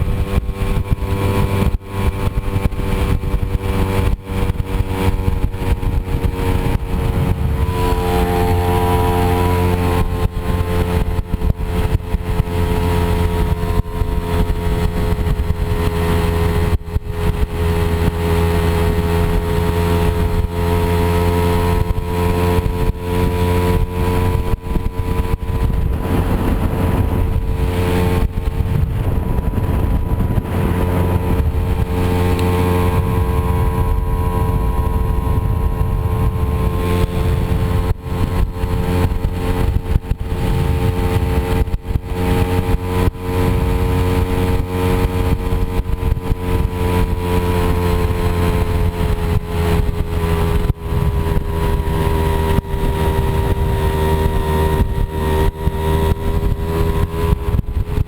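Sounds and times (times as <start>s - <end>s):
moped engine running: 0.0s - 58.0s.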